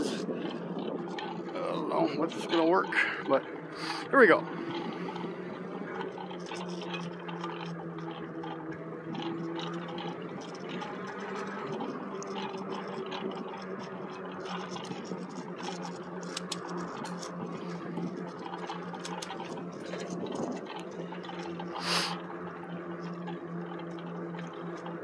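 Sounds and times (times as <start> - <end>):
electric bike motor hum: 0.0 - 25.0.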